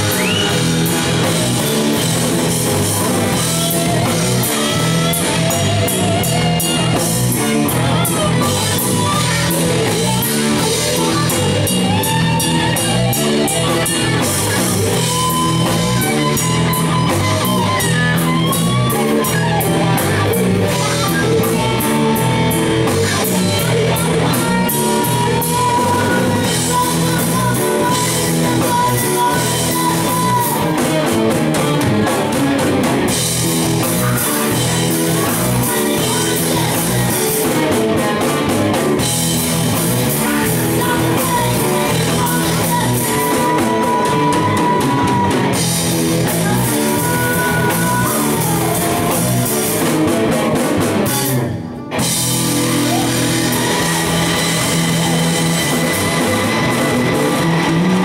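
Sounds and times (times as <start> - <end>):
bass guitar: 0.0 - 58.0
bending lead guitar line: 0.0 - 58.0
drum kit and cymbals: 0.0 - 58.0
electric guitars: 0.0 - 58.0.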